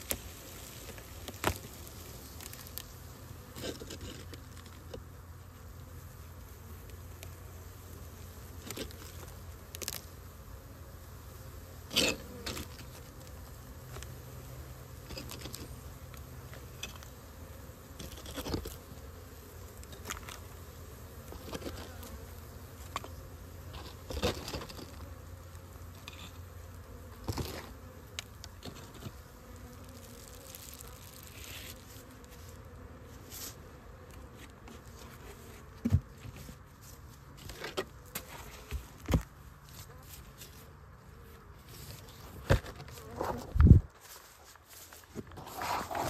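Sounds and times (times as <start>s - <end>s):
knocks and scrapes on hive frames: 0.0s - 7.5s, 8.2s - 10.3s, 11.3s - 46.0s
honeybees buzzing: 0.0s - 46.0s.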